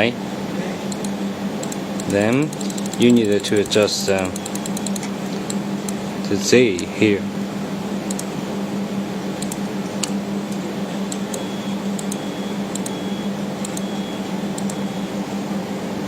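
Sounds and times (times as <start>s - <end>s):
welding equipment electrical hum: 0.0s - 16.0s.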